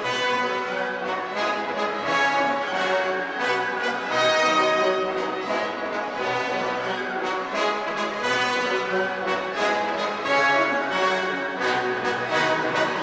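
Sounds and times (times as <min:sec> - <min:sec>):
orchestral music with brass: 0:00.0 - 0:13.0.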